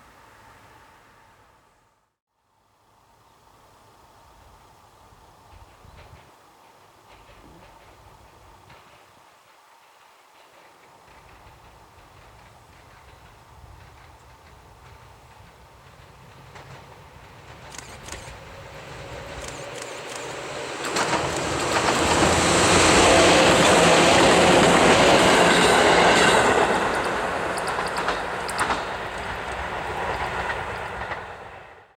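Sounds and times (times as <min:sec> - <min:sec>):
electric train passing: 0:05.4 - 0:32.0
wheels clicking over rail joints: 0:05.5 - 0:31.5.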